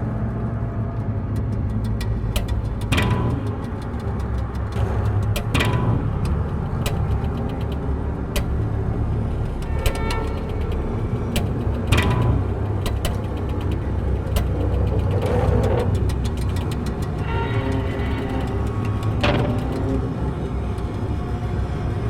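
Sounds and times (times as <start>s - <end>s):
steady low rumble: 0.0s - 22.0s
sharp clicks: 1.4s - 8.8s, 9.6s - 20.1s.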